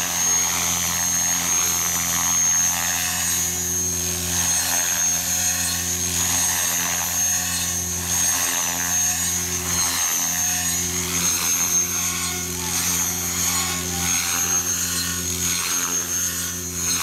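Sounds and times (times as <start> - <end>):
helicopter rotor hum: 0.0 - 17.0
high-pitched whine: 0.0 - 17.0.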